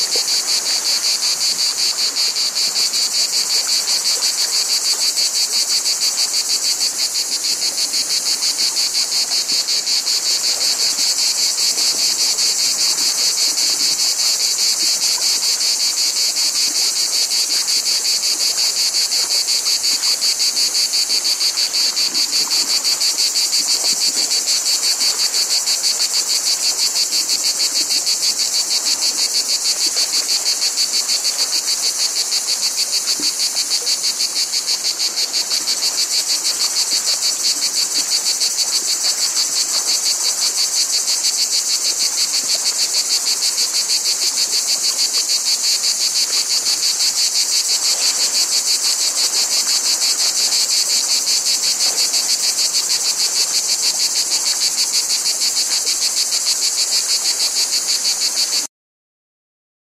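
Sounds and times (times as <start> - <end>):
cicadas buzzing: 0.0 - 58.7.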